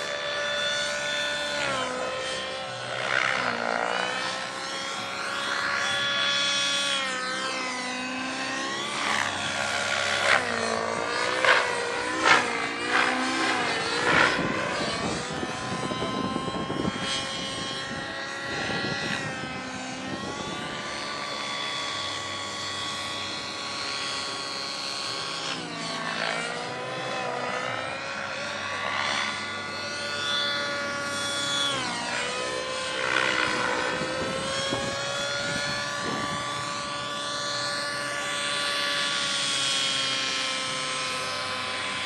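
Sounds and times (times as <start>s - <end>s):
model helicopter whine: 0.0s - 42.0s.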